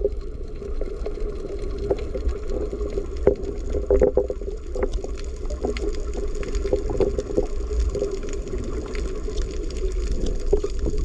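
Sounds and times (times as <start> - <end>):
deep underwater rumble: 0.0 - 11.0
scuba bubbles bubbling: 0.0 - 11.0.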